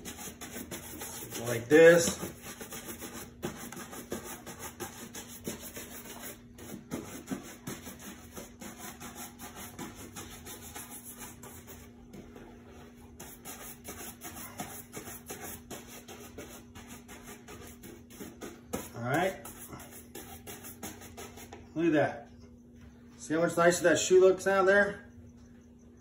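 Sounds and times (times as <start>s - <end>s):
shoe brush scrubbing leather: 0.0s - 21.6s.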